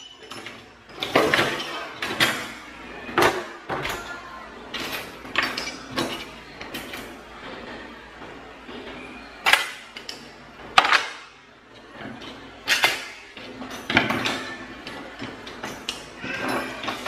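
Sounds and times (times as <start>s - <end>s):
utensils rattling: 0.0s - 7.9s, 8.6s - 17.0s.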